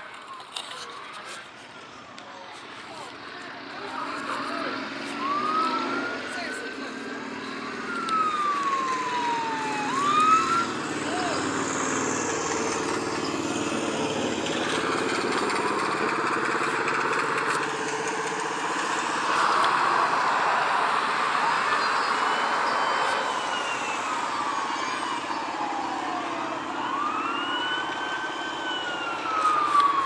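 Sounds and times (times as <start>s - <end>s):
crowd chatter: 0.0s - 30.0s
engine rumble: 0.0s - 30.0s
police siren wailing: 0.0s - 30.0s
traffic noise: 0.0s - 30.0s.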